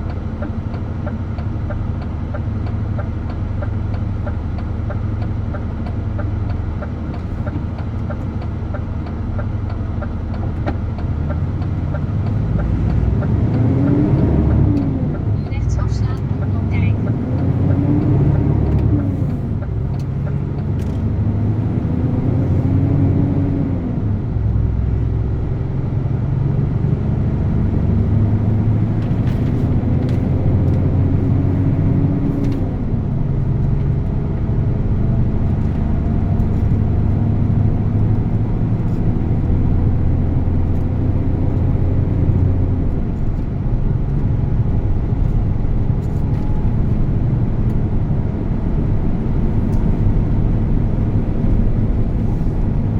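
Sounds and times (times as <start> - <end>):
truck diesel engine driving: 0.0 - 52.9.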